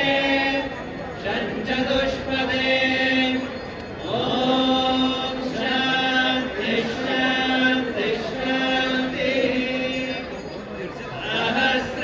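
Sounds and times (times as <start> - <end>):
men chanting: 0.0 - 10.4, 11.2 - 12.0.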